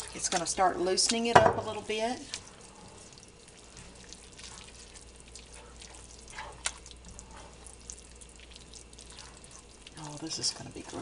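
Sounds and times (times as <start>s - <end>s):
spatula stirring wet mixture: 0.0s - 11.0s.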